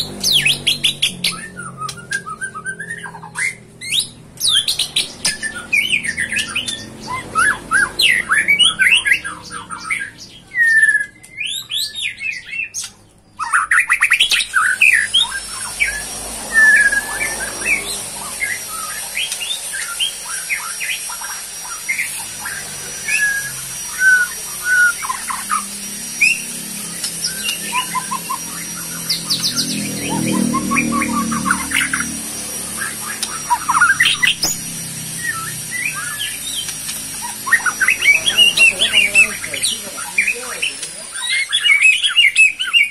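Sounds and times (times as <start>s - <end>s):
birds chirping and calling: 0.0s - 42.9s.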